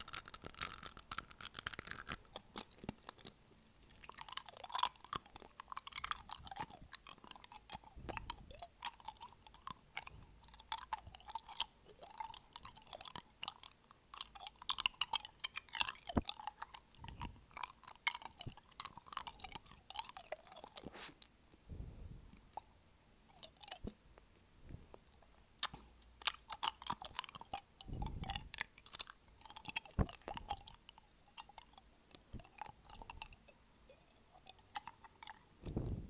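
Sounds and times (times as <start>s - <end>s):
teeth clicking and chewing: 0.0s - 21.4s, 23.3s - 24.3s, 25.0s - 35.8s.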